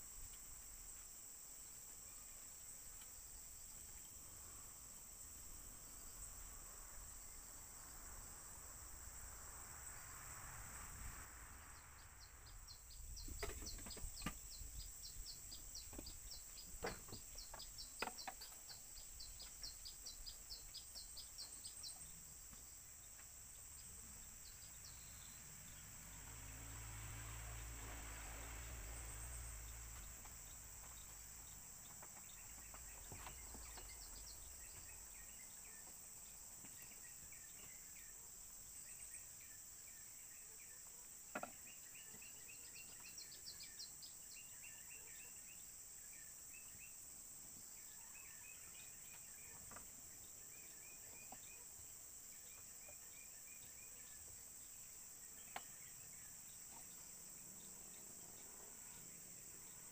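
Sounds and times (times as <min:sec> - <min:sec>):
insect chirps: 0:00.0 - 0:59.9
insect drone: 0:00.0 - 0:59.9.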